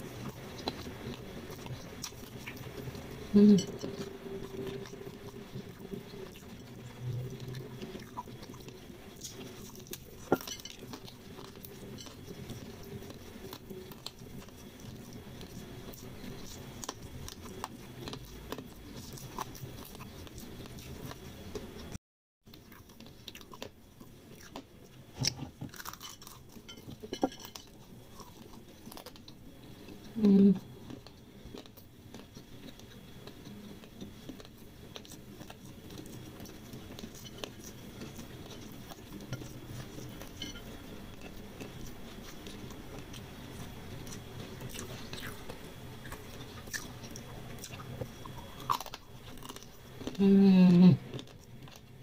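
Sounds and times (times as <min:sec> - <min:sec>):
chewing crispy noodles: 0:00.0 - 0:52.0.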